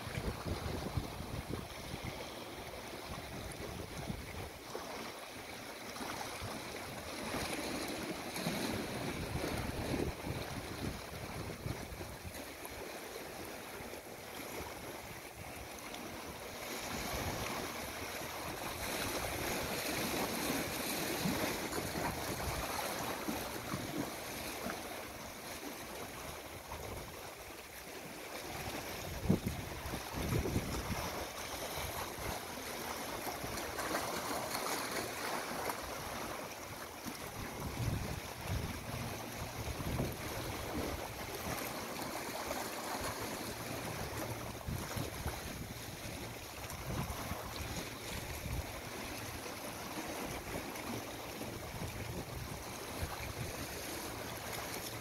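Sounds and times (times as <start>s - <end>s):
waves lapping among rocks: 0.0s - 55.0s.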